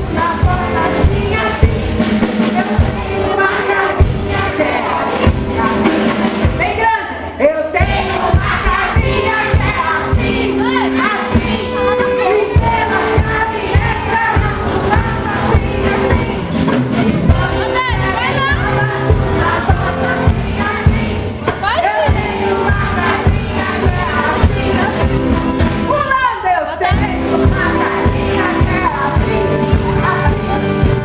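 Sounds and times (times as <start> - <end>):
music with steady beat: 0.0 - 6.8, 7.8 - 26.2, 26.8 - 31.0
people singing: 0.0 - 31.0.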